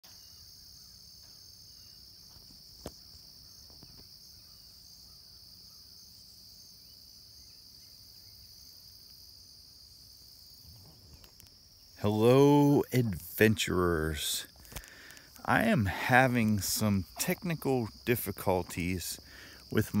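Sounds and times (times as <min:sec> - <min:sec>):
crickets chirping chorus: 0:00.0 - 0:20.0.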